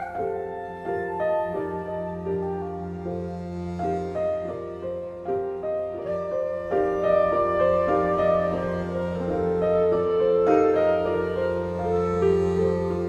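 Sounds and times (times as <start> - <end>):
clarinet: 0.0 - 13.0
gourd string instruments: 0.0 - 13.0
piano: 0.0 - 13.0.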